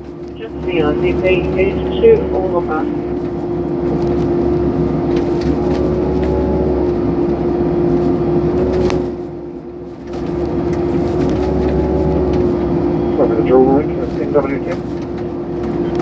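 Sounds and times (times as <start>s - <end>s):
excavator diesel engine: 0.0s - 16.0s
hydraulic whine: 0.0s - 16.0s.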